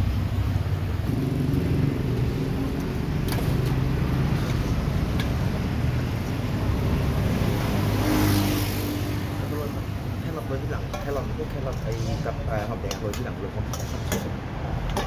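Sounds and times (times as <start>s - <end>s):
vehicle engine humming: 0.0s - 12.1s.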